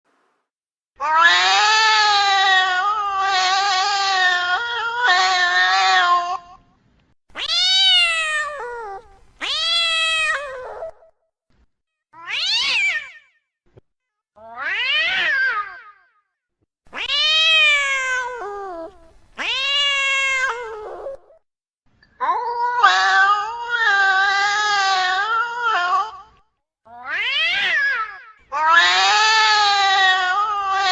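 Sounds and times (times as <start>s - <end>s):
cat yowling: 1.0s - 6.6s, 7.4s - 11.1s, 12.2s - 13.2s, 14.4s - 16.0s, 16.9s - 21.4s, 22.2s - 30.9s.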